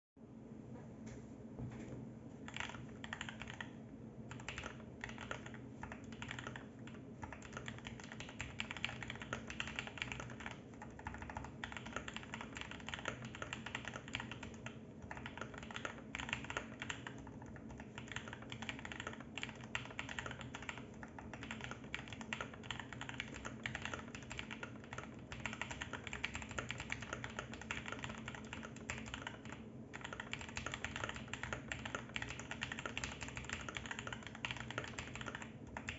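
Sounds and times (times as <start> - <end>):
fast typing on mechanical keyboard: 2.5 - 35.9.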